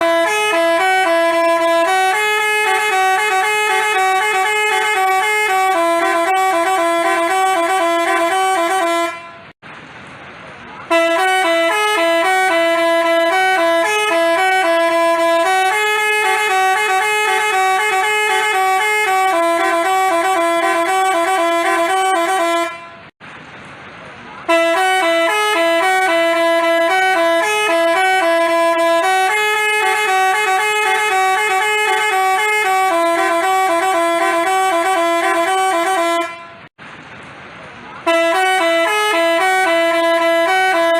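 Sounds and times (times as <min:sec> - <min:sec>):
multi-tone bus horn melody: 0:00.0 - 0:09.6, 0:10.8 - 0:23.2, 0:24.4 - 0:36.7, 0:38.0 - 0:40.9.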